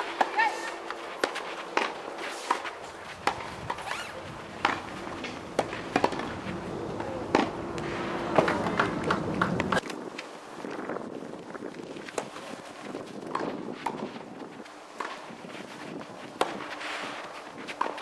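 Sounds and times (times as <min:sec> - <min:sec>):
footsteps on court: 0:00.0 - 0:09.8, 0:11.7 - 0:18.0.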